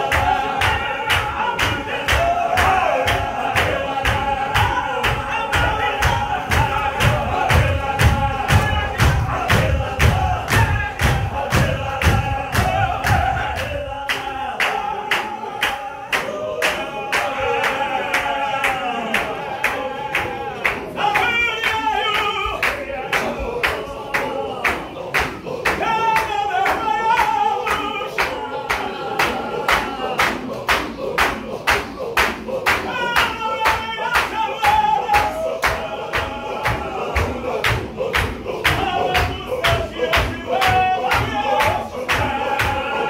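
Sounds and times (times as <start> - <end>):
hand clapping: 0.0 - 43.0
men chanting in unison: 0.0 - 43.0.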